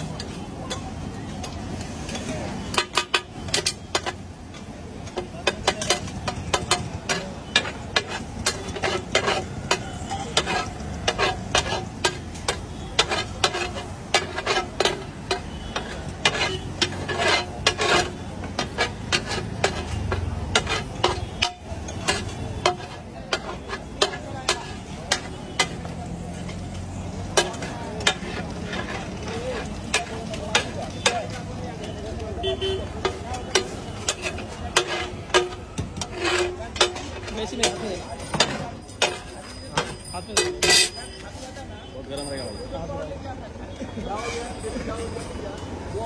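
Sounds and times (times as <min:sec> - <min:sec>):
food sizzling: 0:00.0 - 0:38.1
metal utensil scraping a pan: 0:00.0 - 0:42.6, 0:44.0 - 0:46.0.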